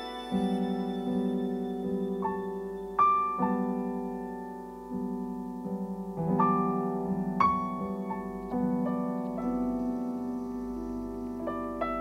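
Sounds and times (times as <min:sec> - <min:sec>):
sustained piano chords: 0:00.0 - 0:12.0.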